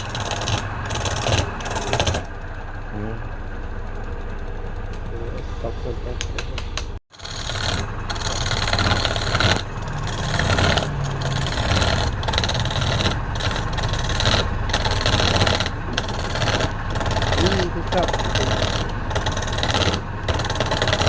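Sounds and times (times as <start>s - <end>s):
tool scraping spinning wood: 0.0s - 2.4s, 6.5s - 21.0s
lathe motor hum: 0.0s - 21.0s.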